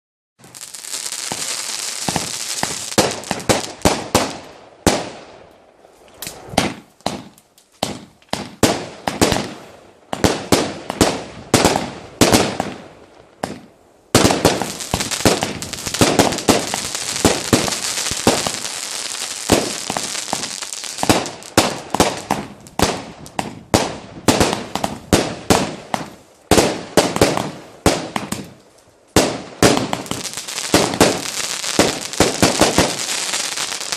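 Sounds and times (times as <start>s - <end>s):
sharp firework bangs: 0.4s - 5.1s, 6.3s - 9.6s, 13.4s - 28.5s, 29.2s - 33.9s
firework shots hissing and crackling: 0.4s - 5.3s, 6.0s - 33.9s.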